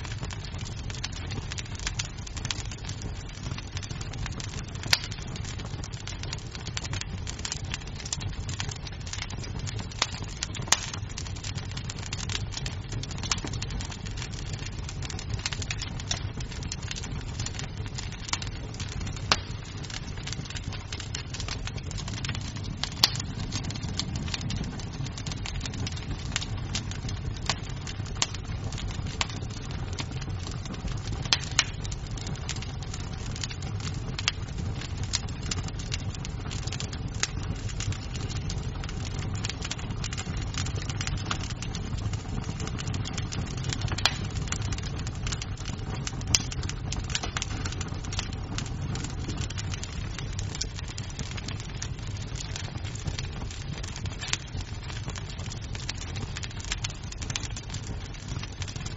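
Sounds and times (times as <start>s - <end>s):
burning wood popping: 0.0s - 58.9s
wood fire crackling: 0.0s - 58.9s.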